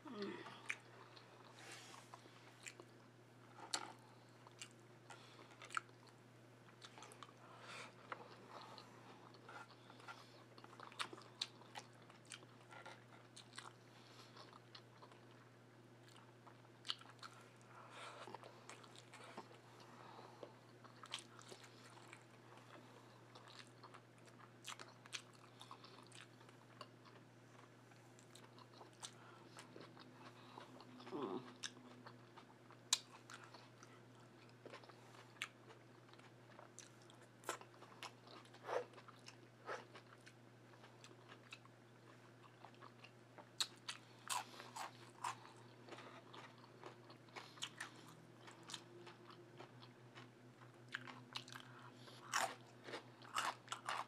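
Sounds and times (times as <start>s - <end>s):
faint low hum: 0.0s - 54.0s
person chewing food: 0.1s - 54.0s.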